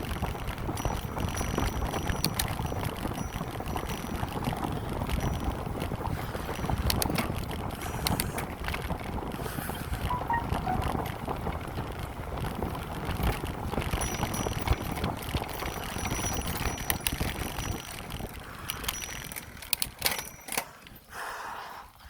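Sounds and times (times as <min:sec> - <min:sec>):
wind on microphone: 0:00.0 - 0:19.4
bicycle rumbling on pavement: 0:00.0 - 0:21.5.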